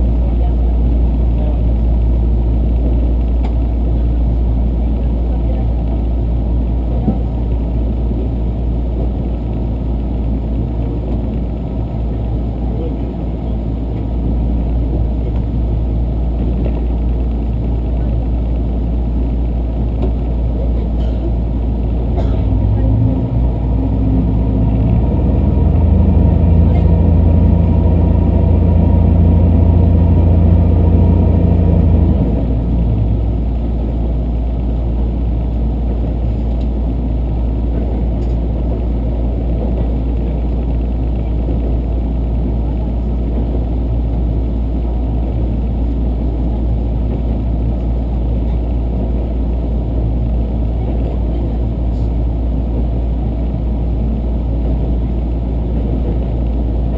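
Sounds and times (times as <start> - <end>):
train engine drone: 0.0 - 56.9
train rumbling on track: 0.0 - 56.9.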